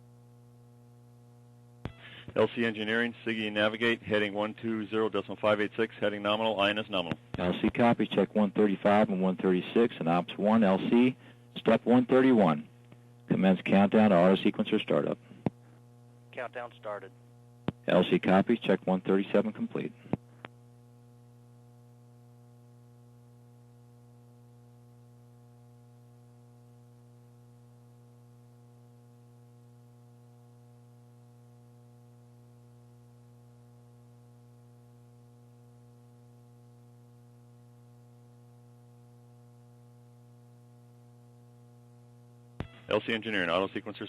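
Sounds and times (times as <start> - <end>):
faint electrical hum: 0.0 - 44.0.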